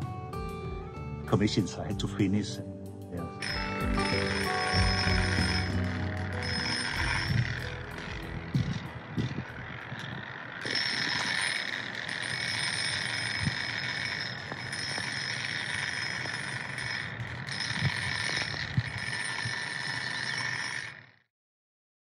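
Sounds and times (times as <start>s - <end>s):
grinder whining on slate: 3.4s - 21.3s.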